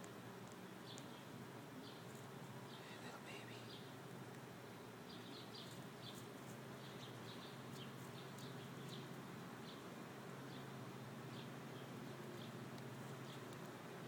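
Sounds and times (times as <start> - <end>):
small birds chirping: 0.0 - 14.0
steady low hum and hiss: 0.0 - 14.0.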